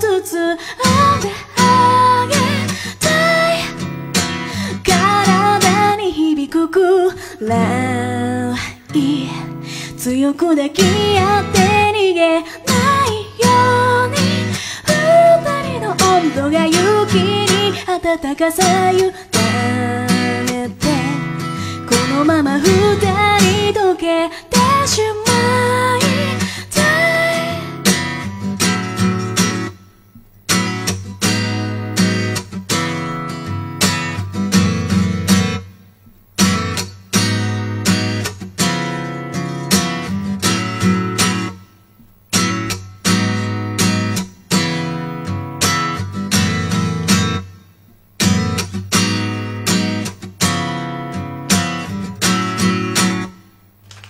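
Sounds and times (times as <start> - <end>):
acoustic guitar strumming: 0.0 - 53.7.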